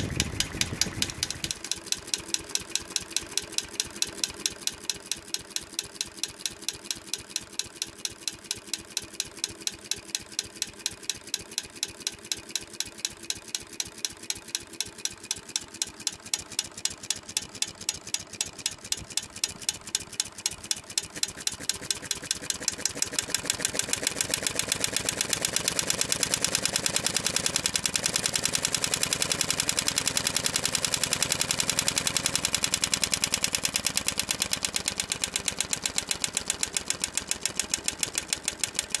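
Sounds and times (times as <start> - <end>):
small engine firing beats: 0.0 - 39.0.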